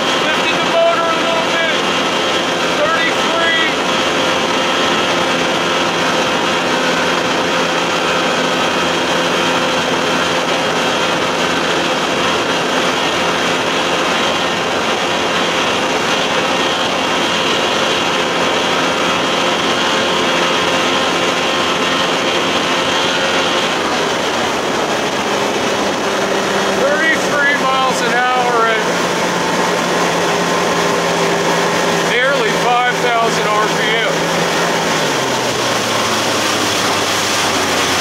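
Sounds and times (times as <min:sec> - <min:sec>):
outboard motor running at high speed: 0:00.0 - 0:38.0
rushing water: 0:00.0 - 0:38.0.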